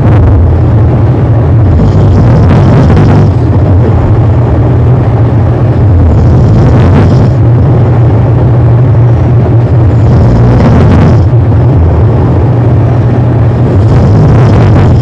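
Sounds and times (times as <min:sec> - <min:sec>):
distorted low snoring drone: 0:00.0 - 0:15.0.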